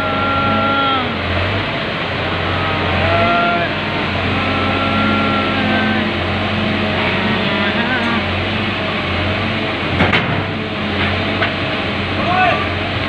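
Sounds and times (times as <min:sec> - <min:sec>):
diesel engine running: 0:00.0 - 0:13.0
hydraulic whining: 0:00.0 - 0:13.0.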